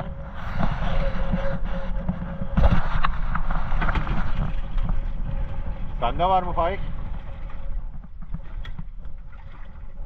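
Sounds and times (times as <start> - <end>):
knocks and clatters on boat: 0.0 - 9.8
wind on microphone: 0.0 - 10.0.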